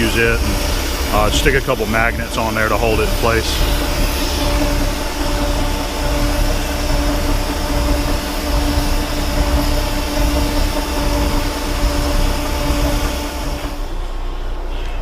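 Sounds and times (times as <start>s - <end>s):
metal lathe running: 0.0s - 14.6s.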